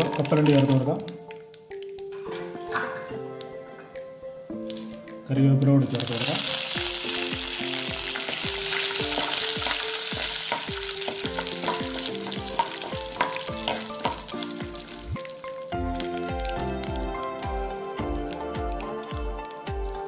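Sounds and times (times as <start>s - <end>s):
leaves sizzling in hot oil: 0.0s - 2.6s, 4.6s - 5.1s, 5.8s - 20.0s
background music with steady beat: 0.0s - 20.0s.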